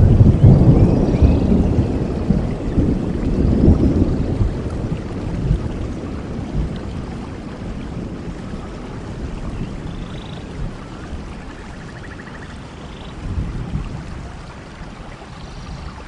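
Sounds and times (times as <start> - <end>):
low rumble of thunder: 0.0 - 16.0
steady rain: 0.0 - 16.0.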